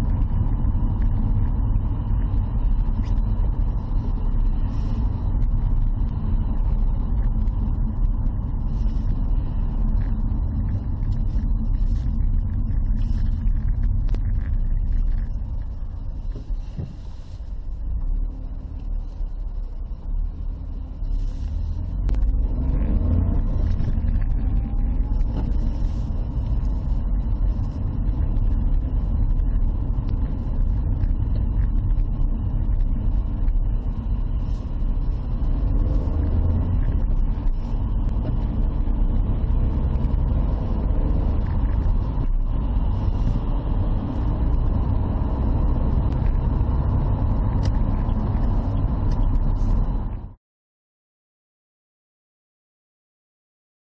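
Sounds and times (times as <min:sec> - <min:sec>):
car engine and tyre rumble: 0:00.0 - 0:50.4.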